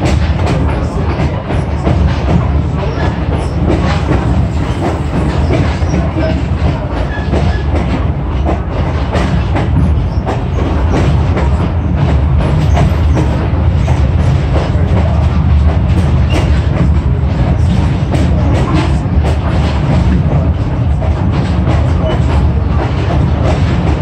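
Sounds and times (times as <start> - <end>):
train car rumbling on track: 0.0 - 24.0
wheels clattering on rails: 0.0 - 24.0.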